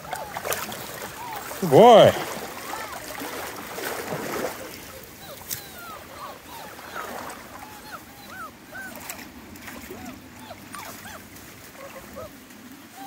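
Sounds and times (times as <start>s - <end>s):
puppies whimpering: 0.0s - 13.0s.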